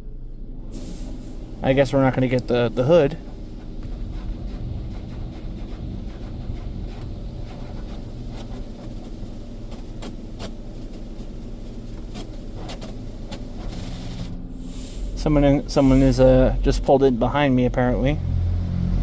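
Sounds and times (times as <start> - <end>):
car wash hum and spray hiss: 0.0 - 19.0.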